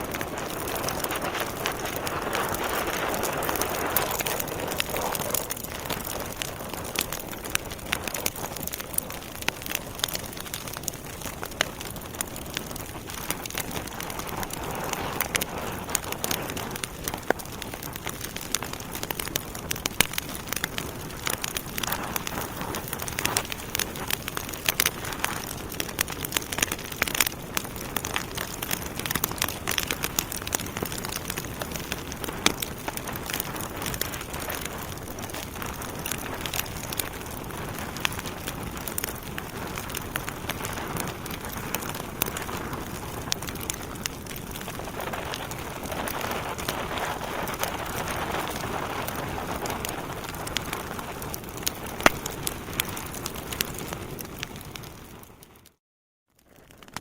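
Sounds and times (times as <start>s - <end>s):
wood fire crackling and popping: 0.0s - 55.8s, 56.4s - 57.0s.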